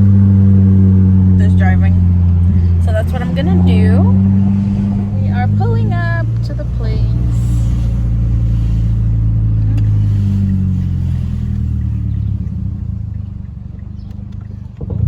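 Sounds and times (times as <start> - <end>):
truck engine drone: 0.0 - 15.0.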